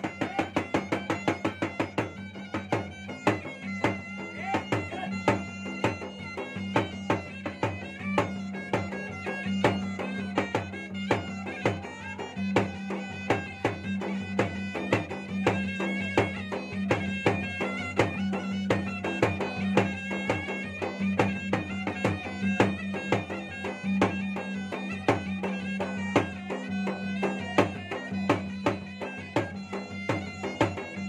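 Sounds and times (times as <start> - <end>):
drums beaten fast: 0.0 - 31.0
wind pipe melody: 0.0 - 31.0.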